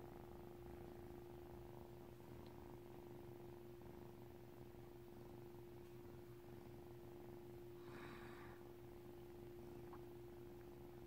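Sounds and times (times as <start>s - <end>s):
kitten purring: 0.0s - 11.0s
steady low hum: 0.0s - 11.0s.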